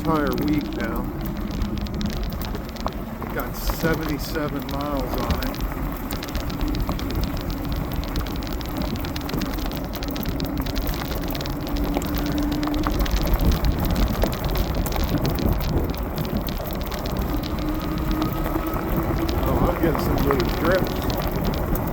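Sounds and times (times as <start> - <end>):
tyre noise: 0.0 - 21.9
wind buffeting microphone: 0.0 - 21.9.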